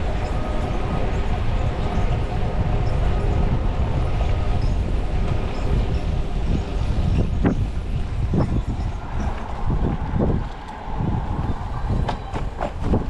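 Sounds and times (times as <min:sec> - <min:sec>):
bicycle tyre road noise: 0:00.0 - 0:13.0
wind buffeting microphone: 0:00.0 - 0:13.0.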